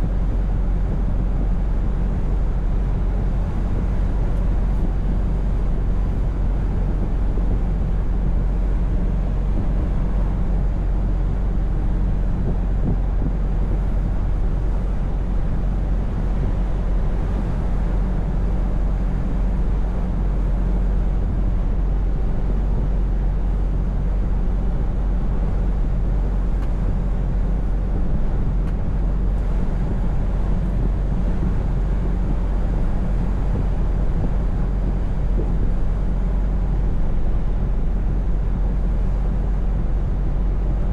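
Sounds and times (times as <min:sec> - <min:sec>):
road noise: 0:08.1 - 0:40.9.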